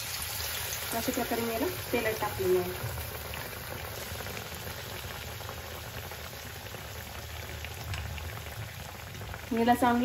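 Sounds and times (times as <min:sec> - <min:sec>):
deep-frying sizzle and crackling: 0:00.0 - 0:10.0.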